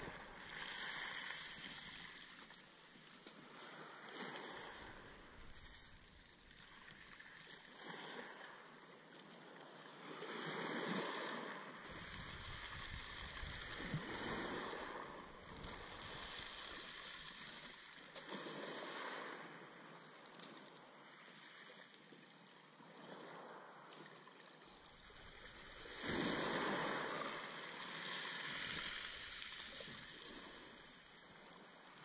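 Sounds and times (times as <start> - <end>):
small waves washing against posts: 0.0 - 22.4, 23.0 - 32.0.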